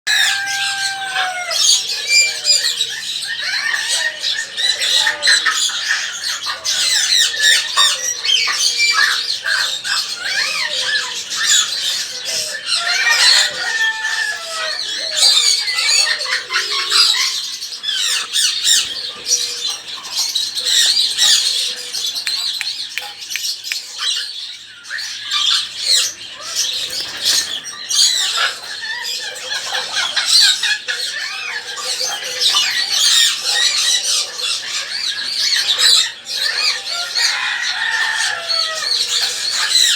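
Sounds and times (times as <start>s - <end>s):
birds chirping and squawking: 0.1s - 39.9s.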